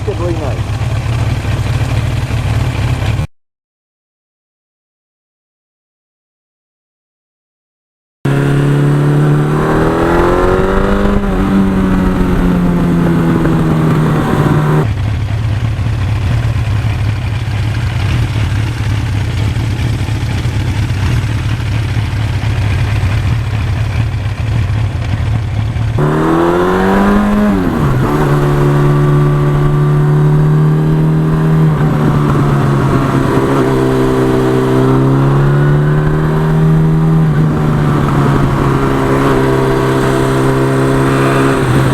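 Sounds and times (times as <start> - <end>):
motorcycle engine accelerating: 0.0 - 3.3, 8.3 - 41.9.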